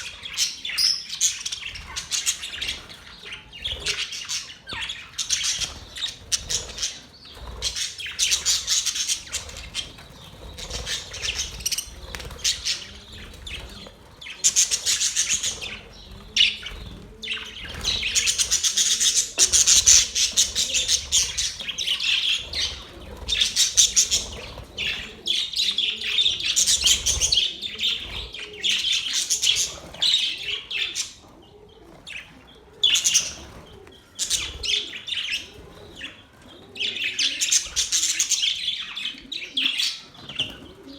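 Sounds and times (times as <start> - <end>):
budgies chirping and chattering: 0.0 - 40.9.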